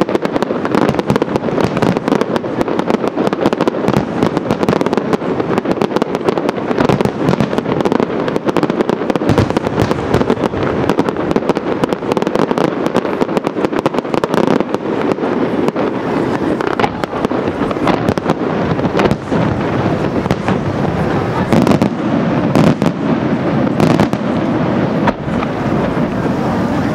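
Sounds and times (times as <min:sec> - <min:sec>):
fireworks bursting: 0:00.0 - 0:26.9.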